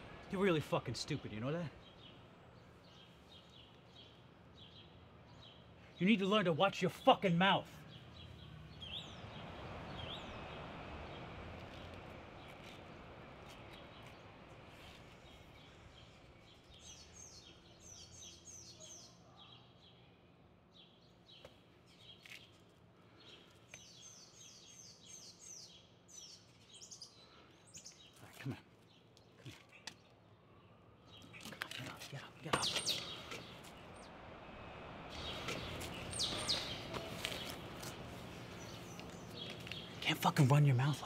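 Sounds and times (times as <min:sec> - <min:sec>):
soft traffic rush: 0:00.0 - 0:19.0, 0:19.8 - 0:41.0
small birds chirping: 0:00.0 - 0:41.0.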